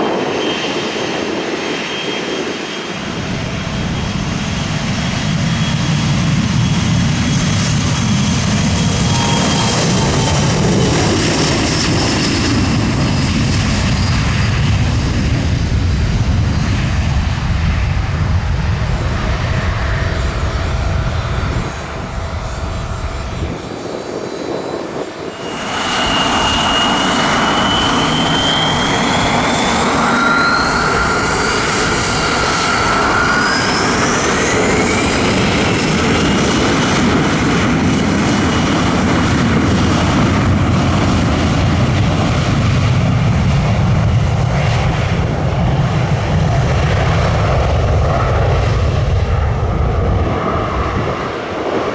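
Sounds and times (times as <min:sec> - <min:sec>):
jet engine whine: 0:00.0 - 0:51.9
jet engines spooling up: 0:00.0 - 0:51.9.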